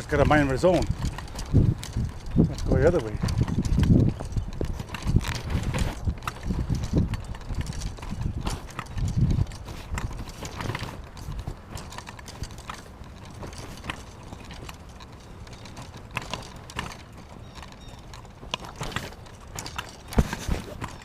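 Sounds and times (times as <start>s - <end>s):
footsteps on brushy ground: 0.0s - 21.0s.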